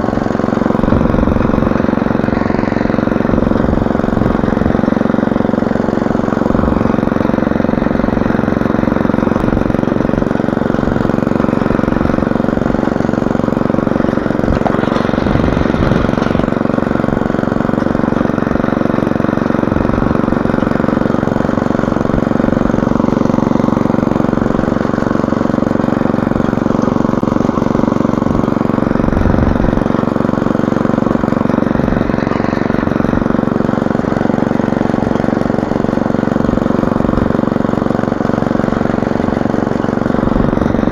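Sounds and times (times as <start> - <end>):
motor hoe engine running: 0.0 - 40.9.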